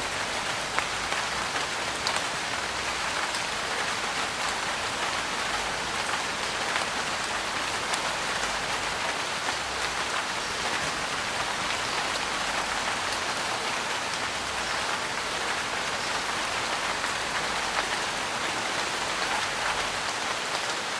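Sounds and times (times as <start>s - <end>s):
rain on a vehicle roof: 0.0s - 20.9s.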